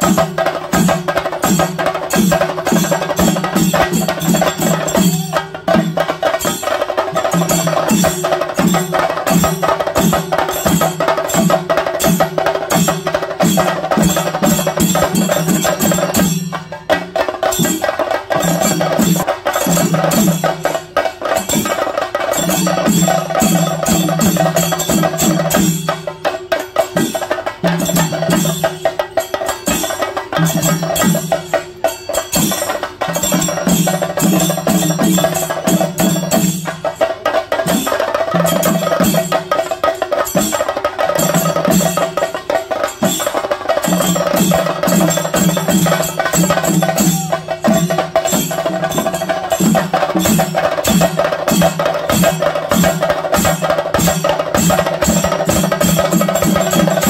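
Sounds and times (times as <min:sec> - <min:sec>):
drums beaten fast with sticks: 0:00.0 - 0:57.0.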